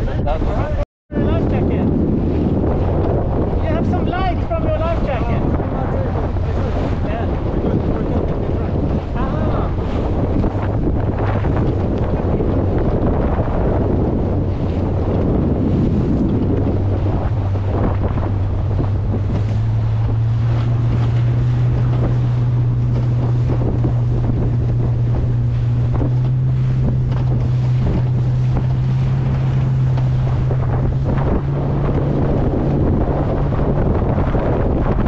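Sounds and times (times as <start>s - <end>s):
boat engine running: 0.0s - 35.0s
wind buffeting microphone: 0.0s - 35.0s.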